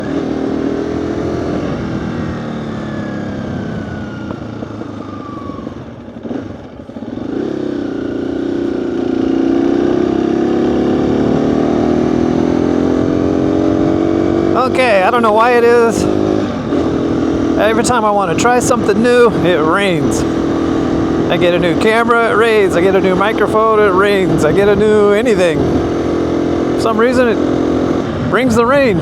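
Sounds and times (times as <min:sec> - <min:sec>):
low wind rumble: 0:00.0 - 0:29.0
motorcycle engine: 0:00.0 - 0:29.0.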